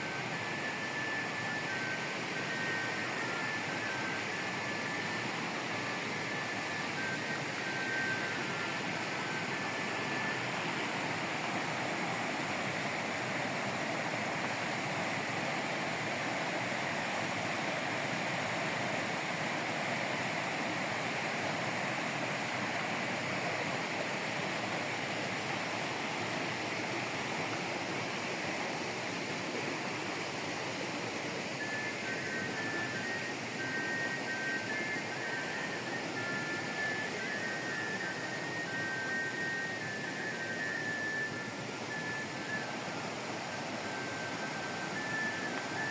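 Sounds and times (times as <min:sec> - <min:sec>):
fast-flowing water rushing: 0:00.0 - 0:45.9.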